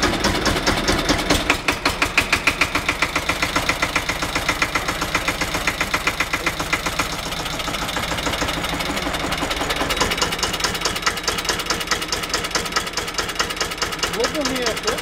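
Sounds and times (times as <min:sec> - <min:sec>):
tractor diesel engine knocking: 0:00.0 - 0:15.0.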